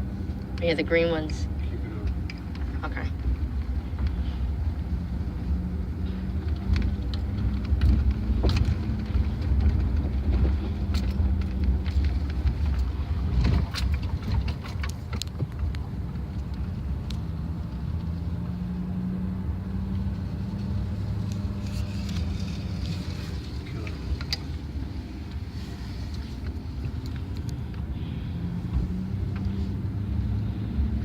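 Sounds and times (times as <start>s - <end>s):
truck engine rumbling: 0.0s - 31.0s.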